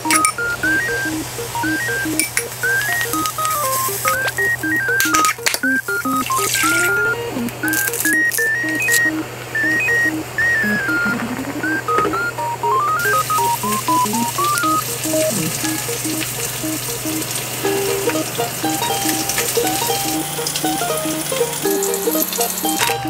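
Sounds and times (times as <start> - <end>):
background music with beat: 0.0 - 23.0
small crackling pops: 0.0 - 23.0
stew boiling and sizzling: 0.1 - 9.7, 13.0 - 23.0.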